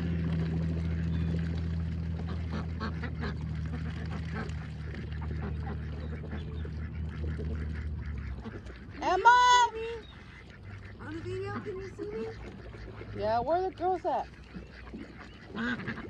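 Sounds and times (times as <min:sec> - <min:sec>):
ducks quacking: 0:00.0 - 0:16.0
steady low hum: 0:00.0 - 0:16.0.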